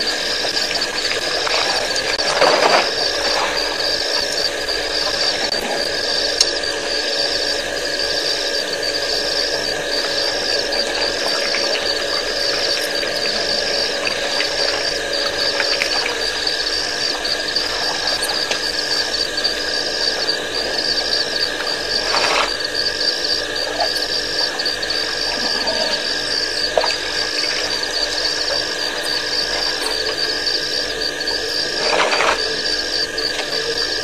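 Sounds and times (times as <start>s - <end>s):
constant hiss and hum: 0.0s - 34.0s
night insects chirping: 0.0s - 34.0s.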